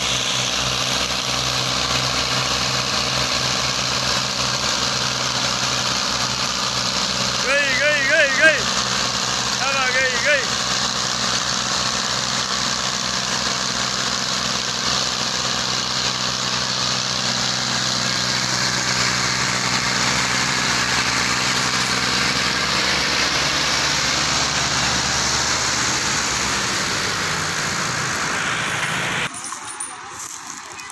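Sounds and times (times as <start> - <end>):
tractor diesel engines running: 0.0 - 30.9.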